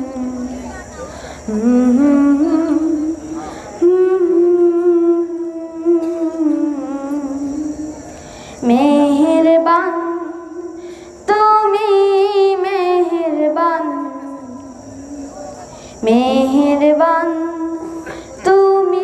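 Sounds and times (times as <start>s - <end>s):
boy singing unaccompanied: 0.0s - 19.0s.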